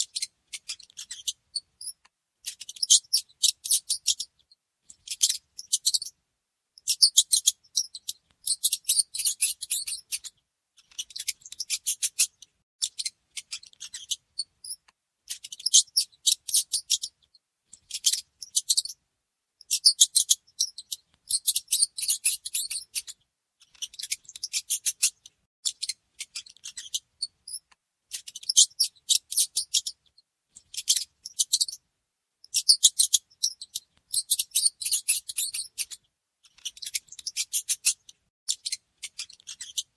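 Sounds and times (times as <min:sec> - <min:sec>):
mice high-pitched clicking: 0:00.0 - 0:06.1, 0:06.8 - 0:19.0, 0:19.6 - 0:31.8, 0:32.5 - 0:39.9.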